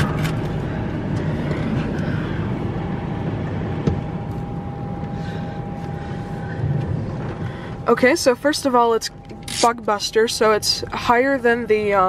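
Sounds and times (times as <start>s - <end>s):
car wash machinery rumble and hiss: 0.0s - 12.0s
thin steady whine: 0.0s - 12.0s.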